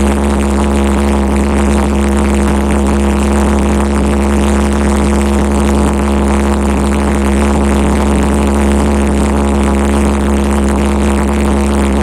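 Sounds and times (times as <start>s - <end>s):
pulse jet engine droning: 0.0s - 12.0s.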